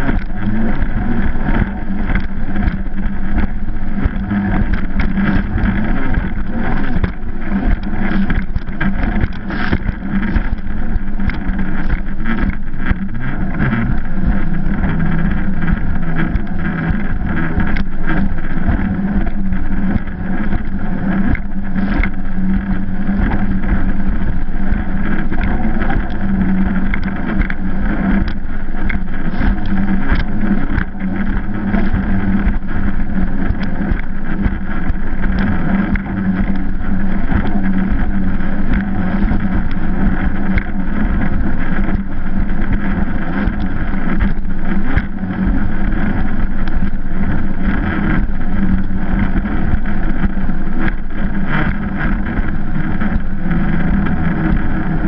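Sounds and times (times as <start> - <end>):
hull knocking on waves: 0.0 - 55.0
jet ski engine drone: 0.0 - 55.0.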